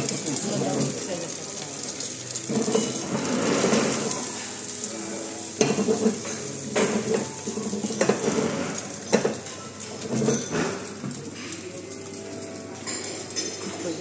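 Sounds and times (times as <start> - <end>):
metallic clinks of pan and utensils: 0.0 - 14.0
omelette sizzling in a frying pan: 0.0 - 14.0.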